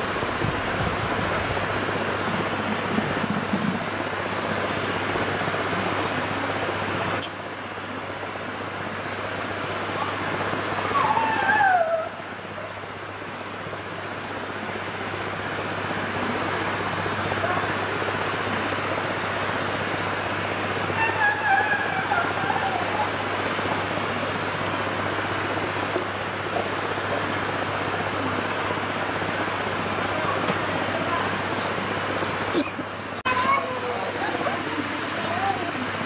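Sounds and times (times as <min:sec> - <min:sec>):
river water rushing over rocks: 0:00.0 - 0:36.0.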